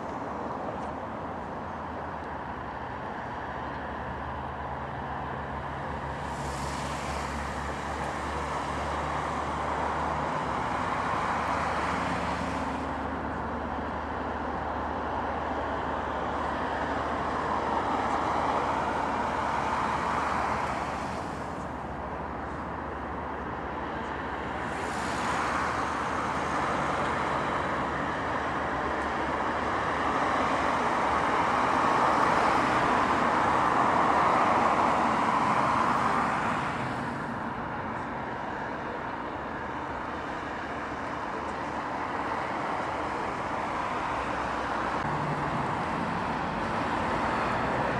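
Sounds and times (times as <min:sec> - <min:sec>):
traffic passing: 0:00.0 - 0:47.9.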